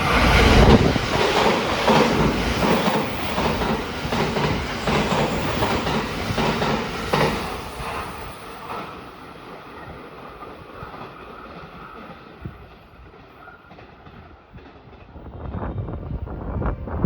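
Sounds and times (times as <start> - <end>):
train running on rails: 0.0 - 17.0
wind buffeting microphone: 0.0 - 17.0.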